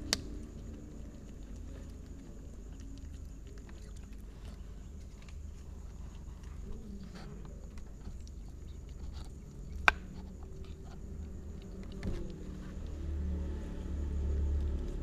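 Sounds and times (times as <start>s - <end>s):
kittens chewing and crunching: 0.0s - 15.0s.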